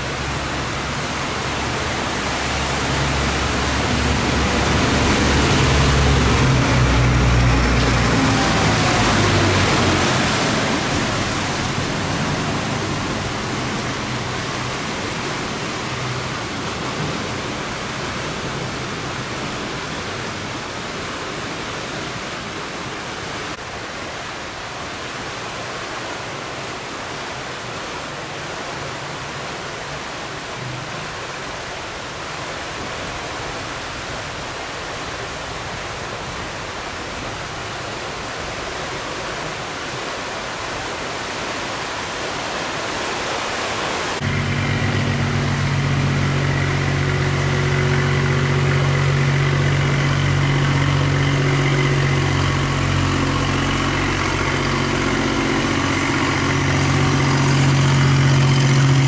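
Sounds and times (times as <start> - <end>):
boat engine drone: 0.0 - 59.0
water rushing through sluice gate: 0.0 - 59.0.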